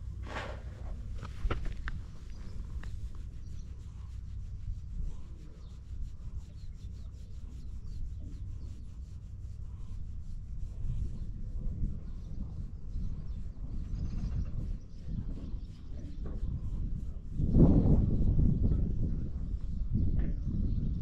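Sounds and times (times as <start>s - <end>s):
low rumble: 0.0s - 21.0s
fingers scratching cat fur: 0.2s - 17.3s.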